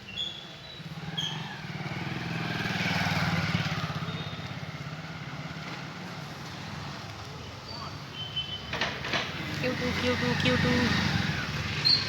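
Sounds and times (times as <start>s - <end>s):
road noise rushing: 1.0s - 12.0s.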